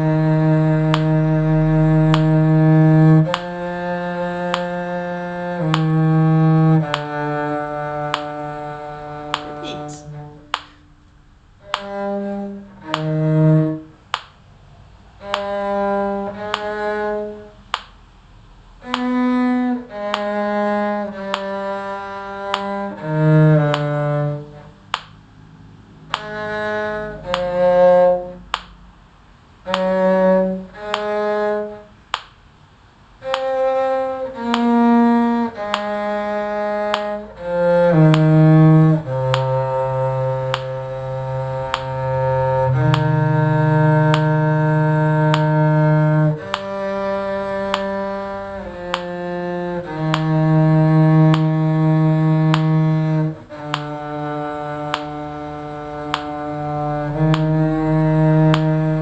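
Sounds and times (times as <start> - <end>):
bowed string instrument melody: 0.0 - 59.0
metronome clicking: 0.1 - 1.5, 2.1 - 13.5, 15.2 - 17.1, 18.8 - 24.2, 26.1 - 28.8, 29.6 - 32.4, 33.2 - 59.0.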